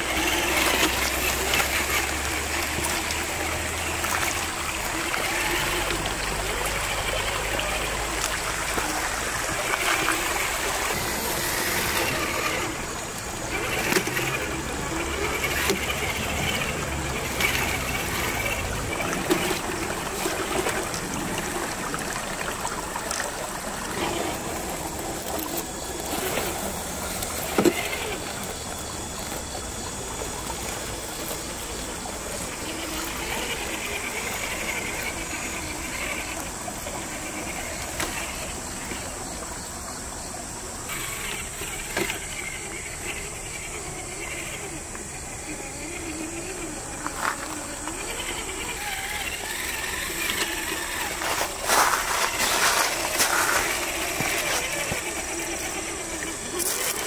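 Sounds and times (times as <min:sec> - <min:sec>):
toy truck motor whirring: 0:00.0 - 0:57.0
water trickling over rocks: 0:00.0 - 0:57.0.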